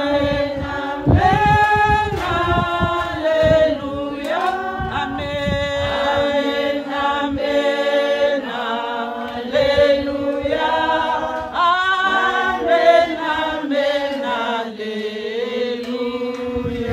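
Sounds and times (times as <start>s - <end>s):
women singing unaccompanied: 0.0s - 16.9s.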